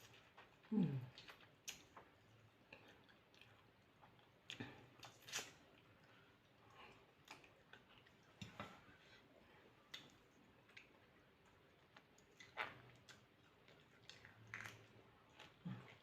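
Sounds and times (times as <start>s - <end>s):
faint chewing with lip smacks: 0.0s - 16.0s.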